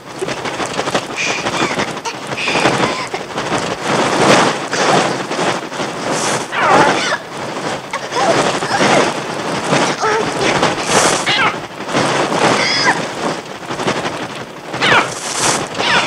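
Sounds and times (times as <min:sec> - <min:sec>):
many wings flapping: 0:00.0 - 0:16.0.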